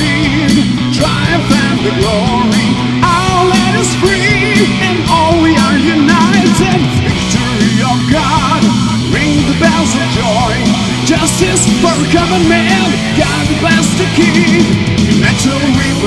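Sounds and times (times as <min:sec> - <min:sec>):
heavy metal song: 0:00.0 - 0:16.0.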